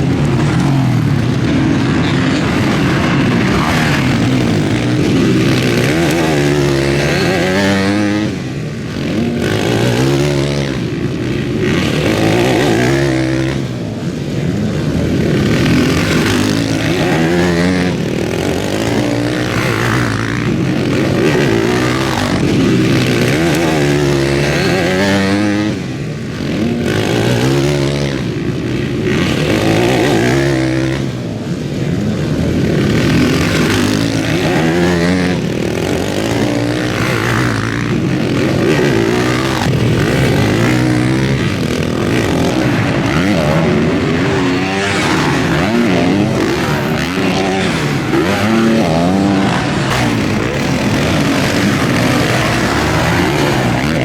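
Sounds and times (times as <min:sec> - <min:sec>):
motocross bikes revving: 0:00.0 - 0:54.0
motorbikes passing by: 0:00.0 - 0:54.0.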